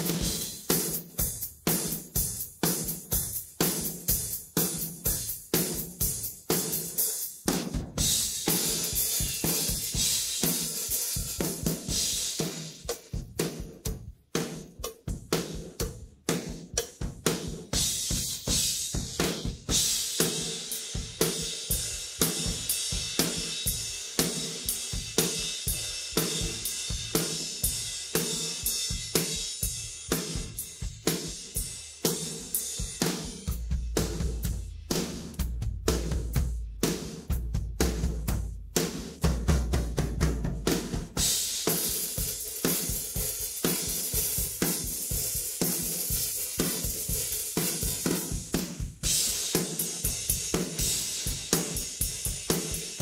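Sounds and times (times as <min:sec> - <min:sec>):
rock drum beat: 0:00.0 - 0:53.0.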